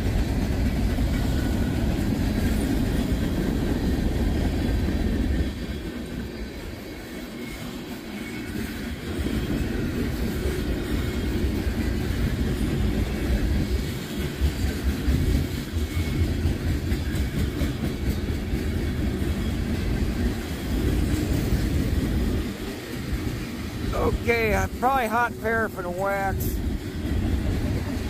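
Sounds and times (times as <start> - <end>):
steel wheels clattering on rails: 0.0 - 24.0
freight train rumbling past: 0.0 - 28.0.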